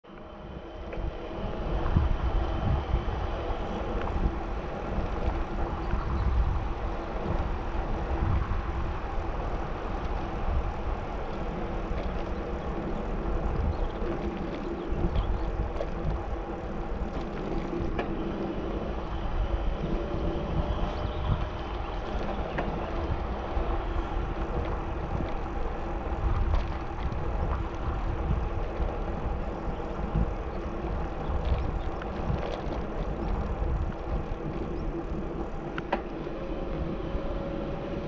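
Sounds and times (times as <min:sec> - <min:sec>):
wind buffeting microphone: 0:00.0 - 0:38.0
bicycle tyres rolling: 0:00.1 - 0:38.0.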